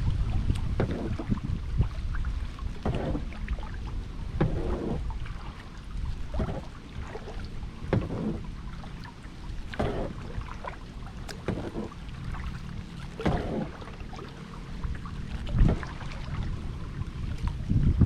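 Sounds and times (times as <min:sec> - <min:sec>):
paddle splashing in water: 0:00.0 - 0:17.8
low rumble: 0:00.0 - 0:18.0.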